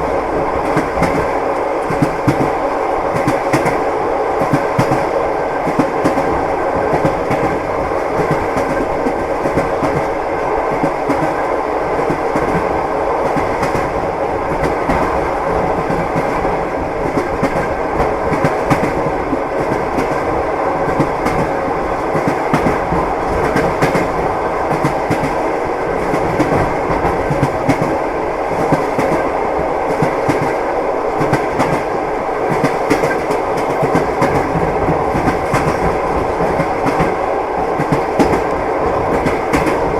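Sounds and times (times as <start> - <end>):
train car rumble and hum: 0.0 - 39.9
train wheels knocking on rail joints: 0.6 - 39.9.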